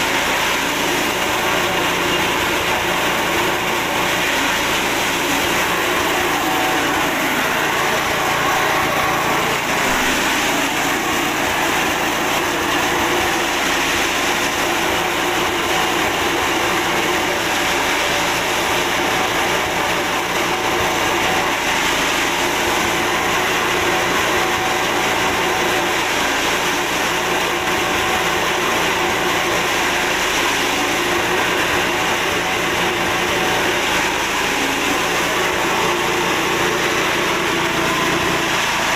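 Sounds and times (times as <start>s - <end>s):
cutter chopping corn stalks: 0.0s - 38.9s
petrol engine running: 0.0s - 38.9s.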